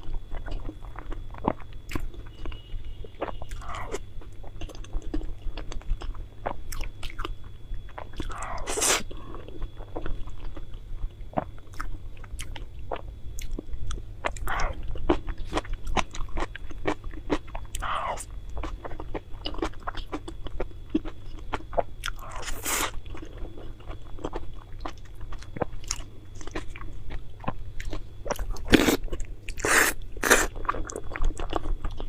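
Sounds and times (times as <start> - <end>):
chewing and biting: 3.2 - 32.0.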